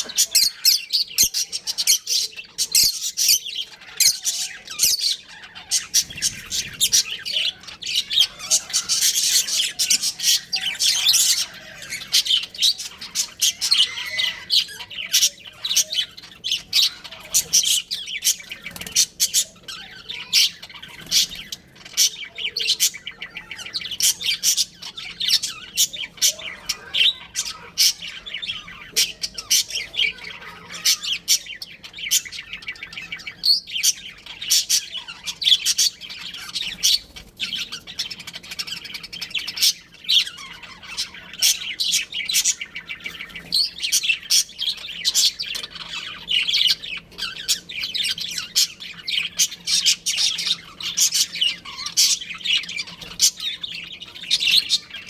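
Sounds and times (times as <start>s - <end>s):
budgerigars chirping and squawking: 0.0s - 55.0s.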